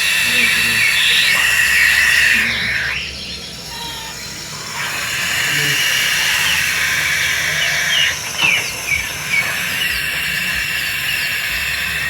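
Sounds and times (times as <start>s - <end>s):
high falling chirps: 0.0s - 12.0s
young owl hissing screech: 0.0s - 12.0s.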